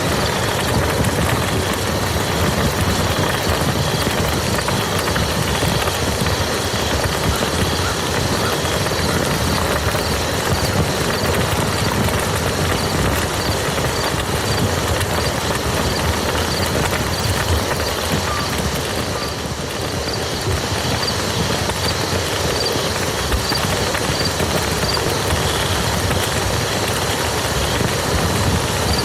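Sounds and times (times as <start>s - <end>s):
rain falling on a muddy field: 0.0s - 29.0s.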